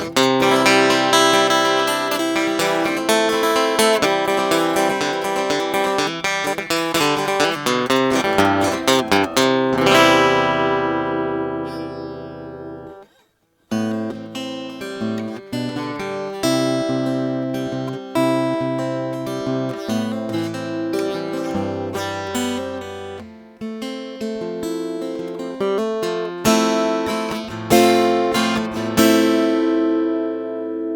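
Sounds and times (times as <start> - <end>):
acoustic guitar chords and notes: 0.0 - 30.9.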